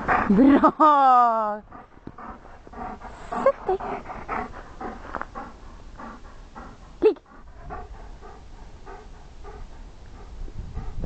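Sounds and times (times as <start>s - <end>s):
dog panting: 0.0s - 0.6s, 1.6s - 11.0s.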